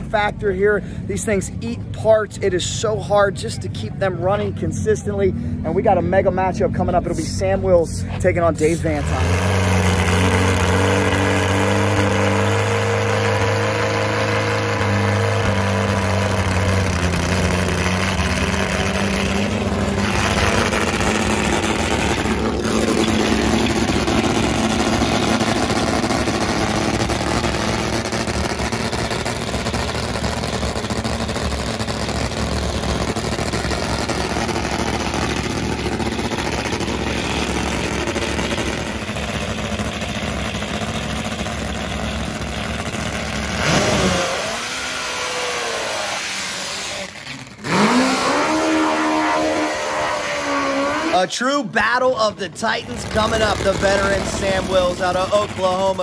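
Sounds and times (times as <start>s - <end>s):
drag motorcycle engine idling: 0.0s - 48.8s, 52.6s - 56.0s.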